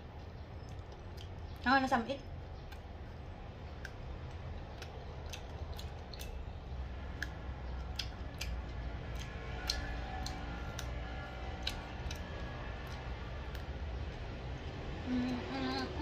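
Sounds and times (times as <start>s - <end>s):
low room hum: 0.0s - 16.0s
mouth clicks and smacks chewing: 0.2s - 1.6s, 2.2s - 14.8s.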